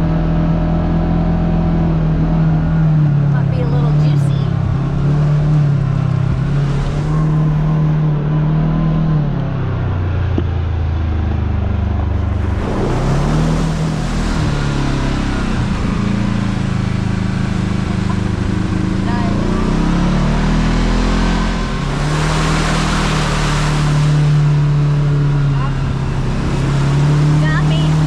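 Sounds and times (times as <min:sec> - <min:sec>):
side-by-side engine driving: 0:00.0 - 0:28.0.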